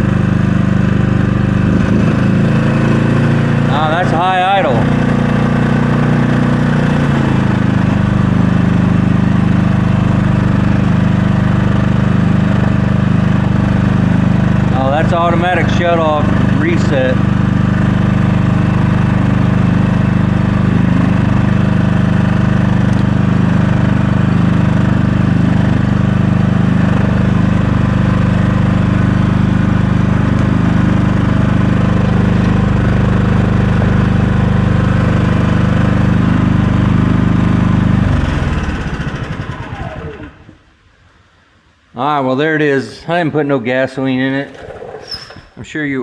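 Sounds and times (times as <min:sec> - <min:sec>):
generator engine running: 0:00.0 - 0:40.8, 0:44.3 - 0:45.6.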